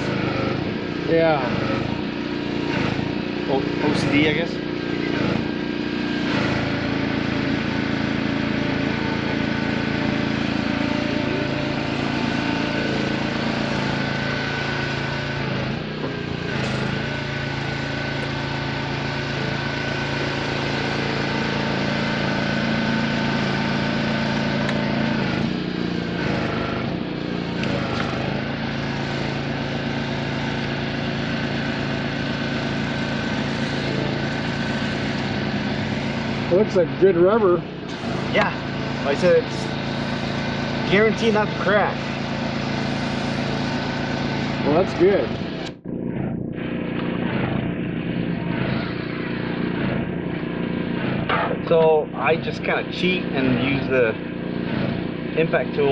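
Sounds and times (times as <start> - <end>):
motor engine drone: 0.0 - 55.9.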